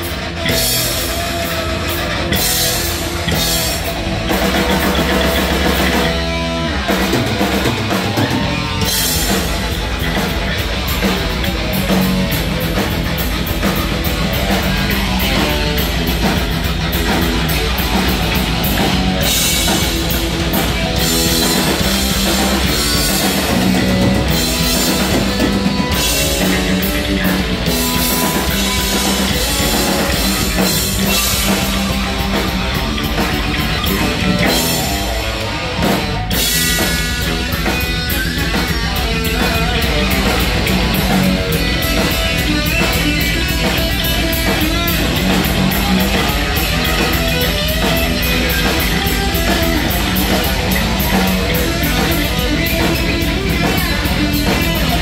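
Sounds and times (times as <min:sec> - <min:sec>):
distorted electric guitar: 0:00.0 - 0:55.0
drum kit: 0:00.0 - 0:55.0.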